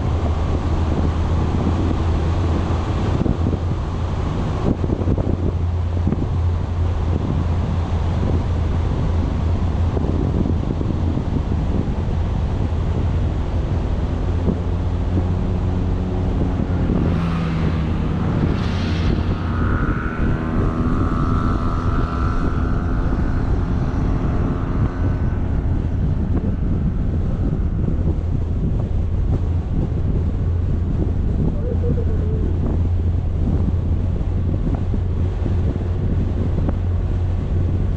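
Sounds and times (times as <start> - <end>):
engine humming: 0.0 - 37.9
wind buffeting microphone: 0.0 - 37.9.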